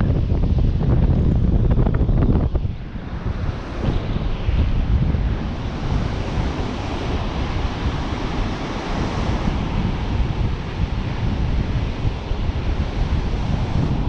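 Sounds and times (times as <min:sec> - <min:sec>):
wind buffeting microphone: 0:00.0 - 0:14.0
ocean surf breaking: 0:02.7 - 0:14.0.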